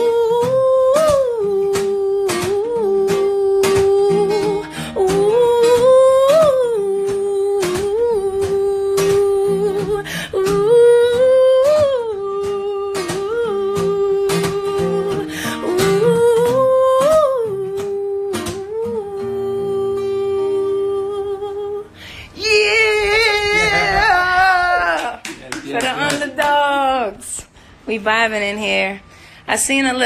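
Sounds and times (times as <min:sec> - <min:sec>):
woman humming: 0:00.0 - 0:25.2.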